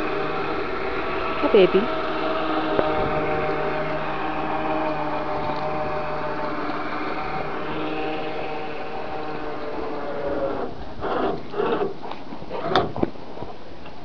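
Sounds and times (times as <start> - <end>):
machine humming: 0.0 - 12.1.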